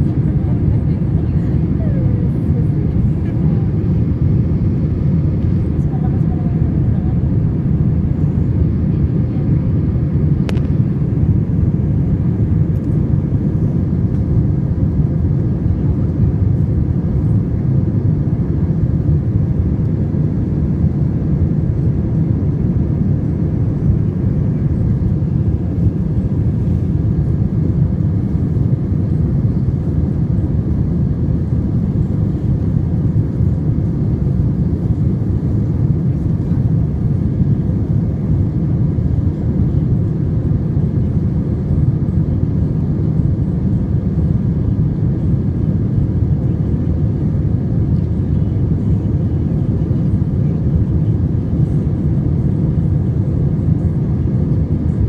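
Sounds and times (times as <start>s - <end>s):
jet cabin engine and airflow rush: 0.0s - 55.0s.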